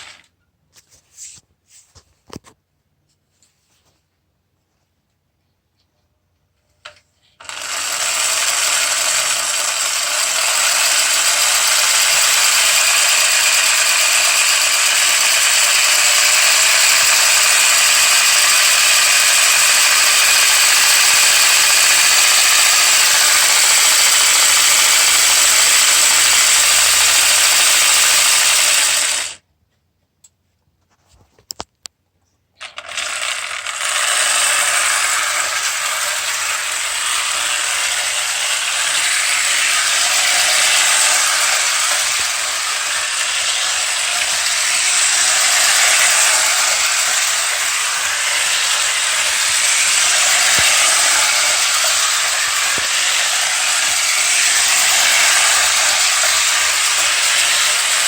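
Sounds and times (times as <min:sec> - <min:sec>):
toy train motor whirring: 0:00.0 - 0:00.3, 0:06.8 - 0:29.4, 0:32.6 - 0:58.0.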